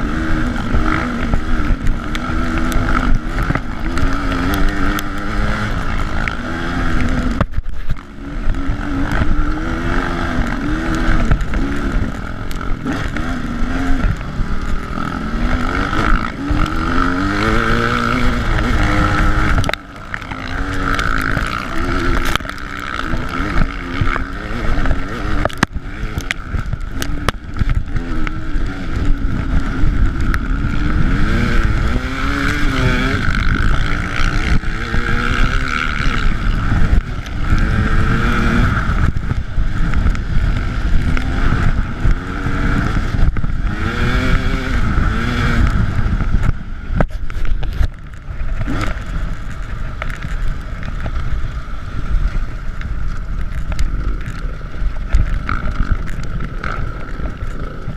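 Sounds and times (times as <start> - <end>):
two-stroke motorbike engine revving: 0.0 - 57.9.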